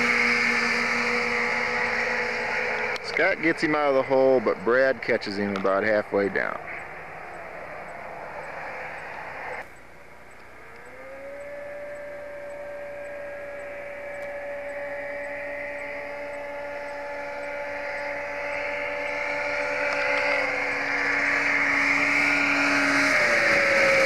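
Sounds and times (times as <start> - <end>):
snowmobile engines whining: 0.0 - 24.0.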